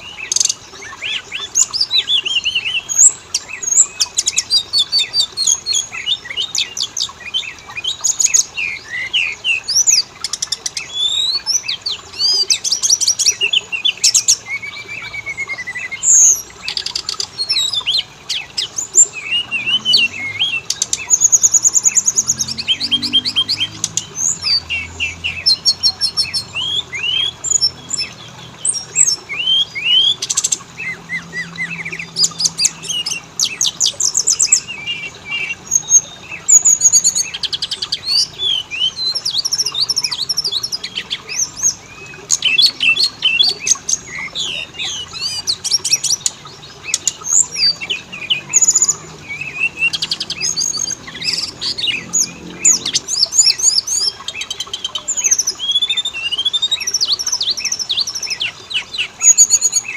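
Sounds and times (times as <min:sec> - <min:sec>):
songbird whistling and trilling: 0:00.0 - 0:59.9.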